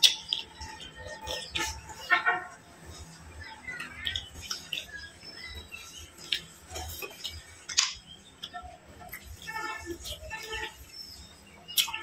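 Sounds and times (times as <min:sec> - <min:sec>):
bird chirping: 0:00.0 - 0:12.0
fingers picking at fried food: 0:00.0 - 0:12.0.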